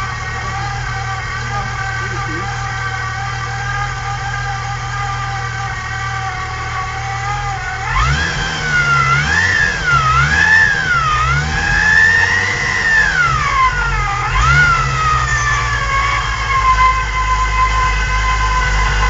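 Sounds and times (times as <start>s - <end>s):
car engine revving: 0.0s - 19.0s
supercharger whine: 0.0s - 19.0s.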